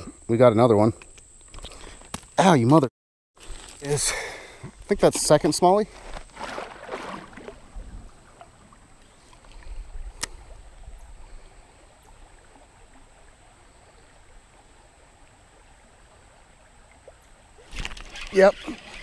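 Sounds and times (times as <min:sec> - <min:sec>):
shallow creek flowing: 0:03.4 - 0:19.0.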